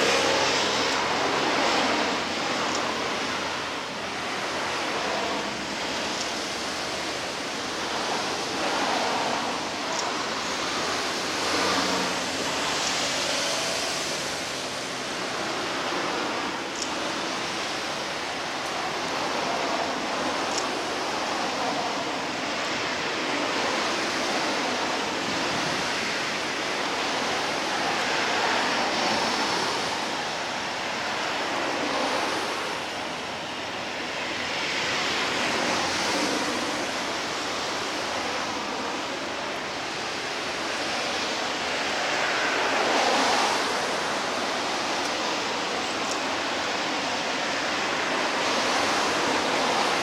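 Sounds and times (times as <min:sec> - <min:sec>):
waves washing against shore: 0:00.0 - 0:50.0.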